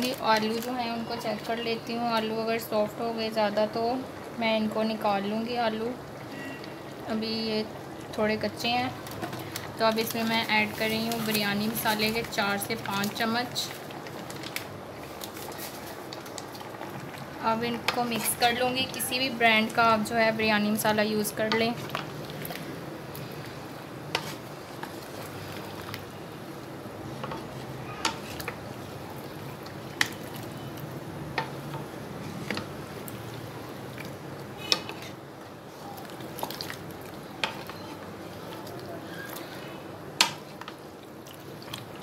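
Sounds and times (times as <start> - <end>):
low simmering hiss: 0.0 - 42.0.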